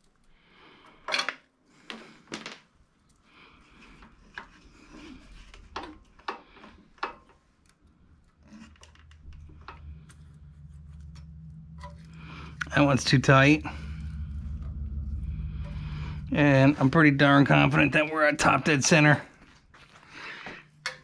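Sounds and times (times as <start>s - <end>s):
low steady hum: 2.9s - 21.0s
soft scraping and rubbing: 3.5s - 20.8s.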